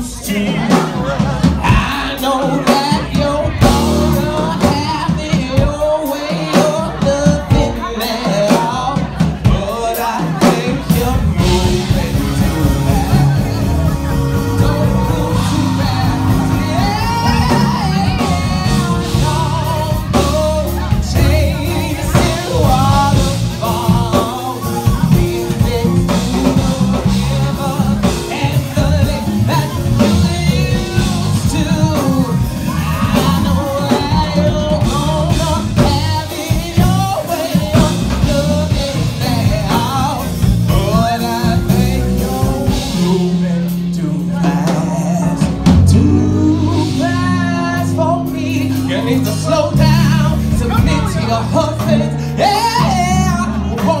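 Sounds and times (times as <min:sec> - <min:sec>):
drums: 0:00.0 - 0:54.0
keyboard: 0:00.0 - 0:54.0
person singing: 0:00.0 - 0:54.0.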